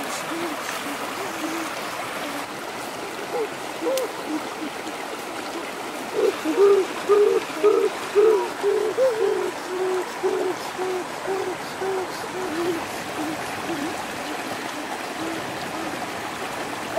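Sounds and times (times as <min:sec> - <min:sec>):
stream rushing: 0:00.0 - 0:16.9
bird hooting: 0:00.3 - 0:02.5, 0:03.2 - 0:04.8, 0:06.1 - 0:16.0.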